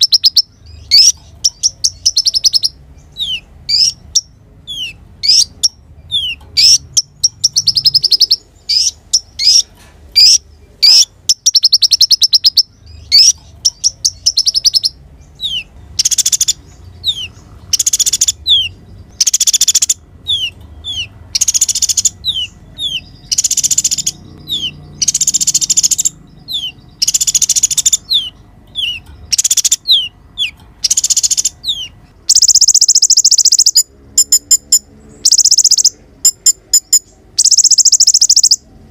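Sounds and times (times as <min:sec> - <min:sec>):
sunbird chip notes and trills: 0:00.0 - 0:38.9.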